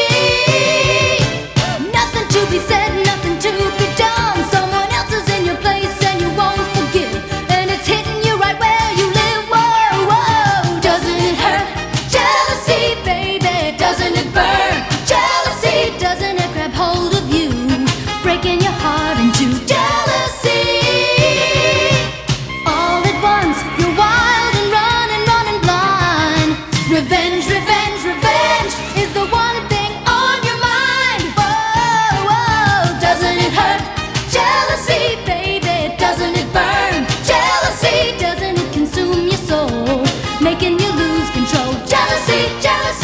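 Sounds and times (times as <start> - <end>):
drum beat and backing instruments: 0.0 - 43.0
pop song with lead vocal: 0.0 - 43.0.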